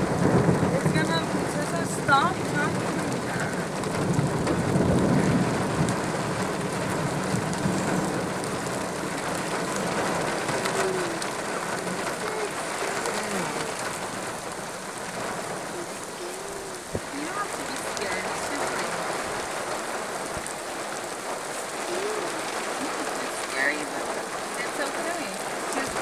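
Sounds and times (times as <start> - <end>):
heavy rain pouring: 0.0 - 26.0
thunder rumbling: 0.0 - 26.0.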